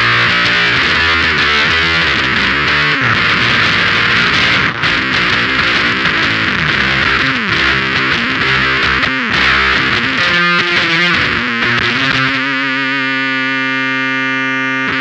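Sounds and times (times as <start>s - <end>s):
distorted fuzz electric guitar: 0.0s - 15.0s.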